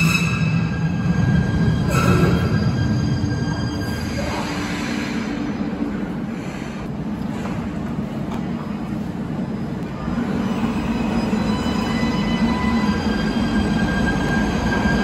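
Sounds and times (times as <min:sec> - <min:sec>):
faint train whine: 0:00.0 - 0:15.0
stopped train humming: 0:00.0 - 0:15.0
train rumble: 0:00.0 - 0:15.0.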